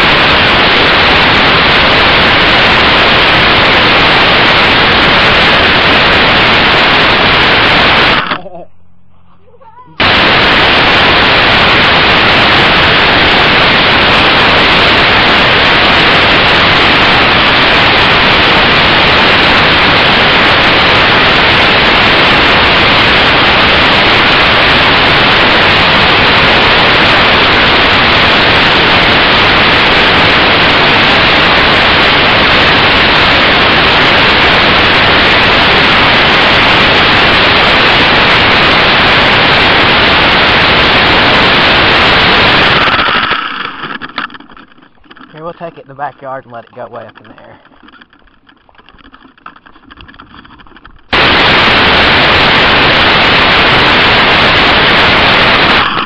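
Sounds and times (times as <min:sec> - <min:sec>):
loud static-like hiss: 0:00.0 - 0:56.0.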